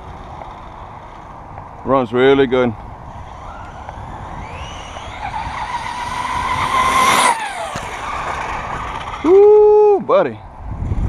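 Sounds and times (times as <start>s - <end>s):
rc truck drivetrain whine: 0.0s - 9.9s
tire noise: 0.0s - 11.0s.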